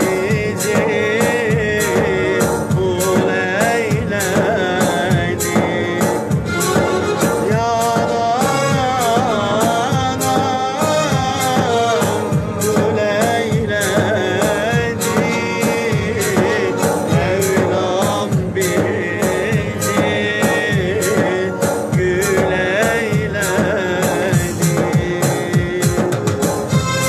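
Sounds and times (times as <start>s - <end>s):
instrumental accompaniment: 0.0s - 27.0s
man singing ornamented melody: 0.0s - 27.0s
steady percussive beat: 0.0s - 27.0s.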